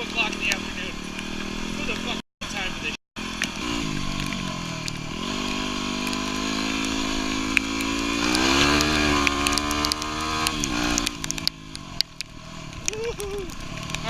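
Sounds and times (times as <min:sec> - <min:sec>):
sharp ticks: 0:00.0 - 0:02.1, 0:03.2 - 0:14.0
motorcycle engine running: 0:00.0 - 0:14.0.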